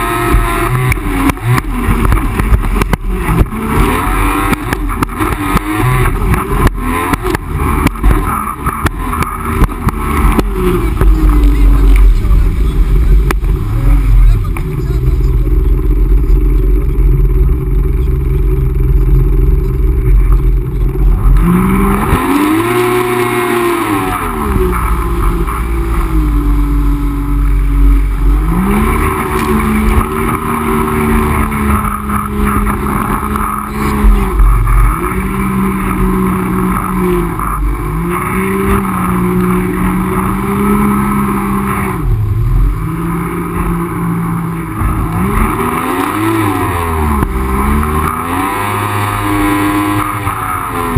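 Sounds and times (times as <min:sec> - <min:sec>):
jet ski engine: 0:00.0 - 0:50.9.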